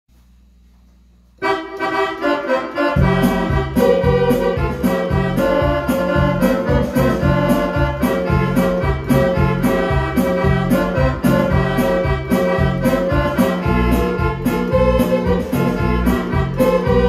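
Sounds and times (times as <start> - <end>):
faint hum: 0.1 - 17.0
electronic keyboard melody: 1.4 - 17.0
bass and drum accompaniment: 2.8 - 17.0.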